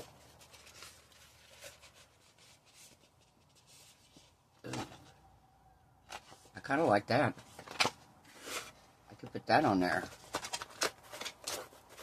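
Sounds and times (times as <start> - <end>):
vinyl sheet rustling and crinkling: 0.0 - 5.0, 6.1 - 8.9, 9.6 - 12.0.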